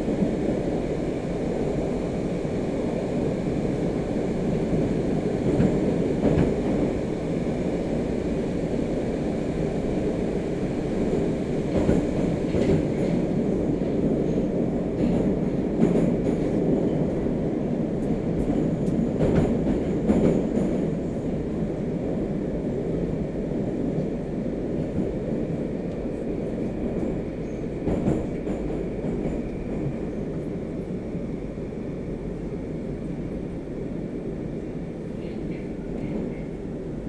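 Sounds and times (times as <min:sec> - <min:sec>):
train wheels rumbling: 0:00.0 - 0:37.0.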